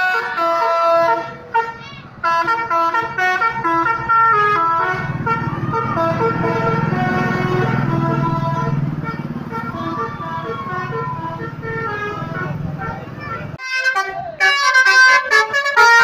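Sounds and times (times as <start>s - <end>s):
bus engine rumbling: 0.0s - 16.0s
musical bus horn melody: 0.0s - 16.0s.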